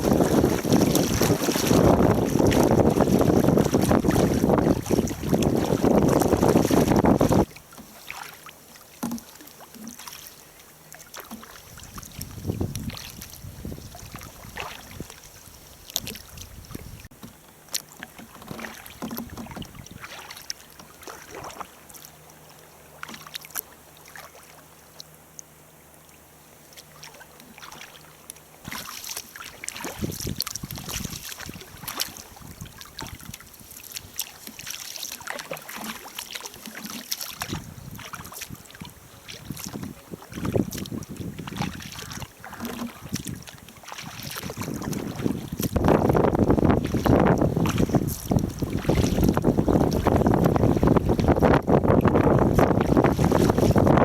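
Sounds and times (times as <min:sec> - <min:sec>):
water slapping against hull: 0:00.0 - 0:25.5, 0:26.7 - 0:54.0
paddle splashes: 0:00.0 - 0:54.0.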